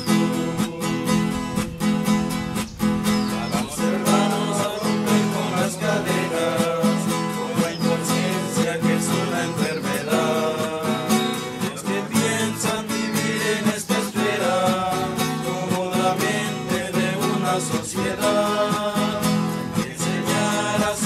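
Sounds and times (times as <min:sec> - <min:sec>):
acoustic guitar strumming: 0:00.0 - 0:21.0
group of people singing: 0:00.0 - 0:21.0.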